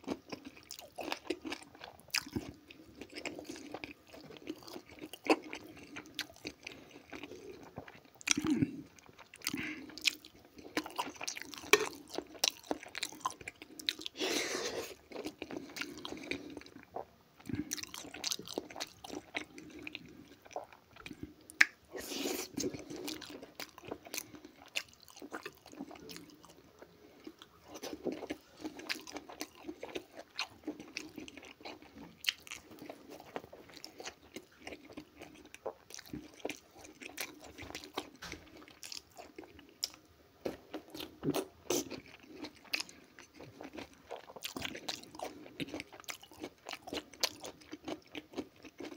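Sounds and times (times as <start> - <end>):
close chewing and biting: 0.0 - 48.9.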